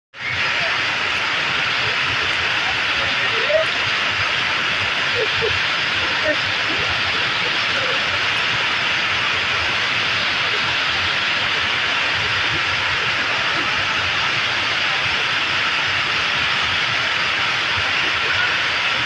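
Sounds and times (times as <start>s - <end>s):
heavy rain: 0.1s - 19.0s
rushing rainwater: 0.1s - 19.0s.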